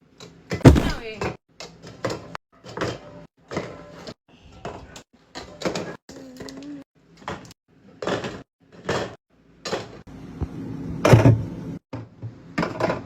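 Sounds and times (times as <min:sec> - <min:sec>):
groceries knocking and clunking: 0:00.1 - 0:10.1, 0:11.0 - 0:13.0.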